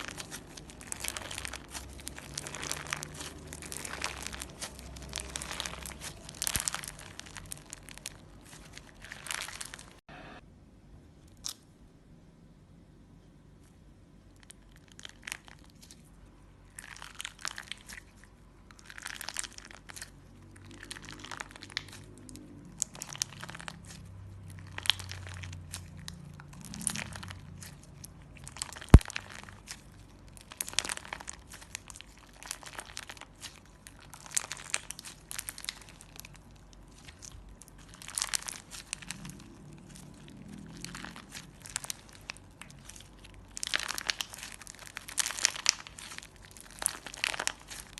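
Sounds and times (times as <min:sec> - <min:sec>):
slime crackling and popping: 0:00.0 - 0:10.1, 0:14.2 - 0:47.9.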